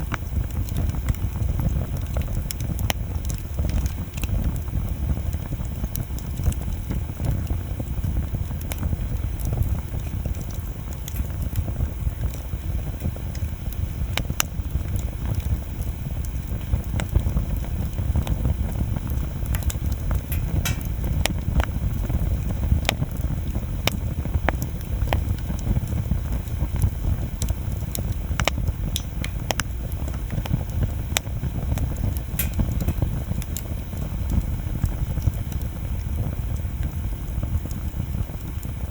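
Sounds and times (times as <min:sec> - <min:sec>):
bonfire rumbling: 0:00.0 - 0:38.9
burning wood crackling and popping: 0:00.0 - 0:38.9.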